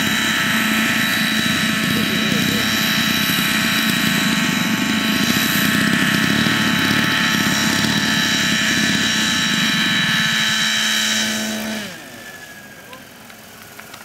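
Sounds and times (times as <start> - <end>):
model aircraft engines running: 0.0 - 14.0
model helicopter whine: 0.0 - 14.0.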